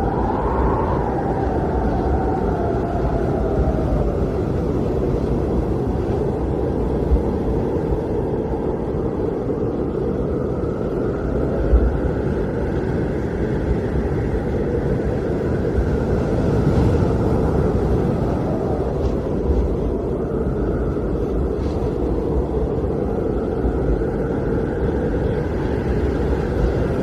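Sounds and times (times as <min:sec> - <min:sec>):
howling blizzard wind: 0:00.0 - 0:27.0.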